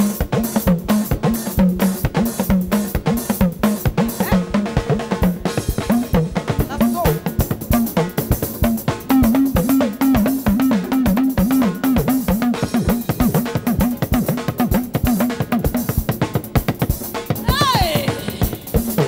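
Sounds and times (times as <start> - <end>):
band playing dance groove: 0.0 - 19.0.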